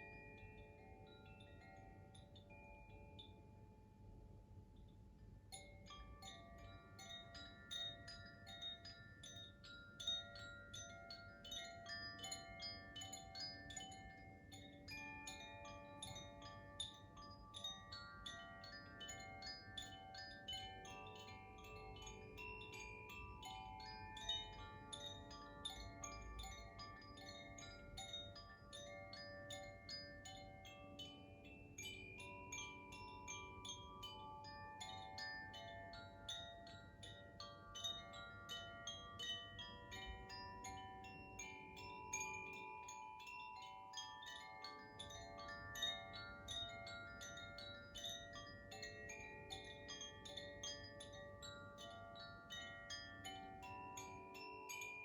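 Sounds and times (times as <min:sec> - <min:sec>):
wind chime tinkling: 0:00.0 - 0:55.0.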